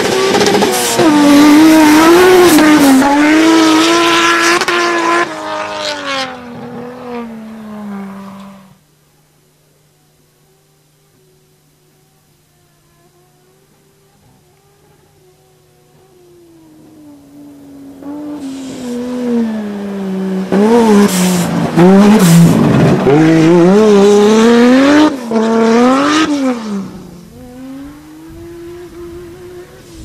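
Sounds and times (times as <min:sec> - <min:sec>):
car engine revving: 0:00.0 - 0:08.9, 0:10.2 - 0:30.0.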